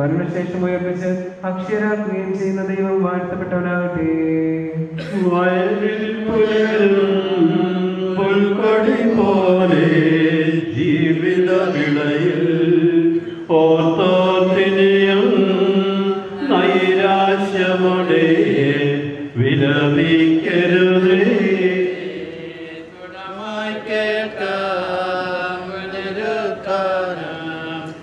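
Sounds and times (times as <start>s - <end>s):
voices chanting a hymn: 0.0s - 28.0s.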